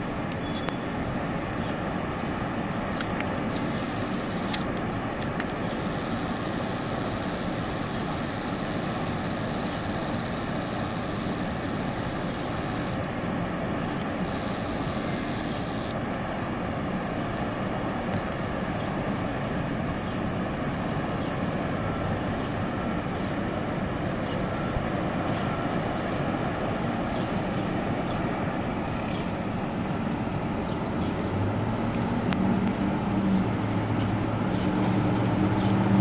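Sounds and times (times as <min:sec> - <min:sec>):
waterfall roaring: 0:00.0 - 0:35.6.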